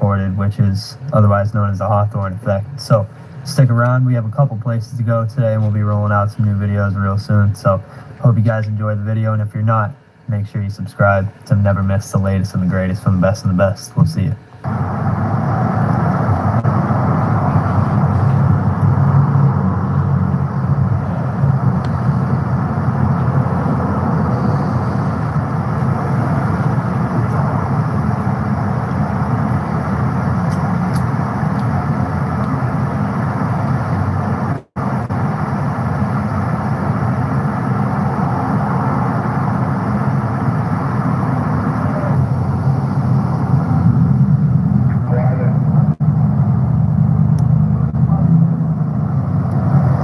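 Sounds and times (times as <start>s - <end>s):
vehicle and road noise: 0.0s - 50.0s.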